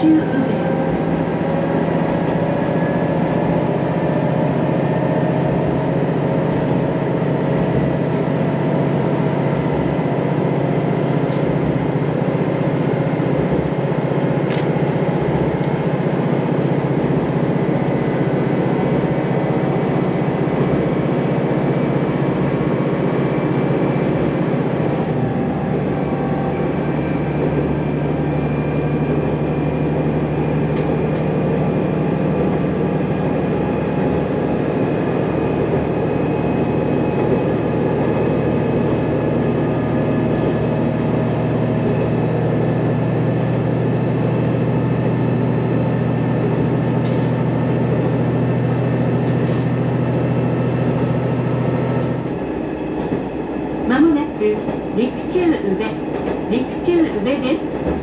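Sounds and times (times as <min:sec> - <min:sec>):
railcar engine drone: 0:00.0 - 0:58.0.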